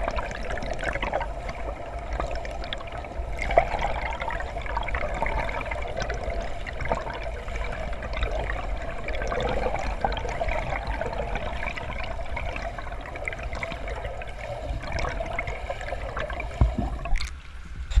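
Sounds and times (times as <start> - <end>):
muffled underwater swimming strokes: 0.0 - 18.0.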